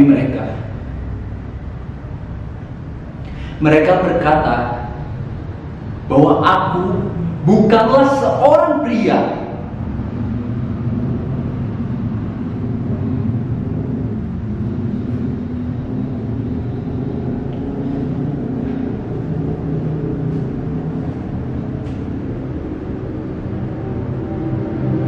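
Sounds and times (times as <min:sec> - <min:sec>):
low drone of deep tones: 0:00.0 - 0:25.0.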